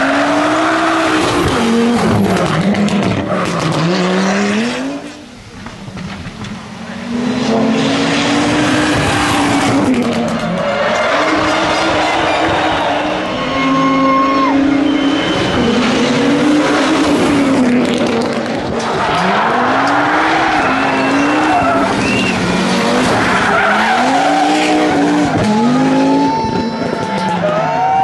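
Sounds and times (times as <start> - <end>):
rally car engine revving: 0.0 - 28.0
tyres skidding on tarmac: 0.0 - 28.0.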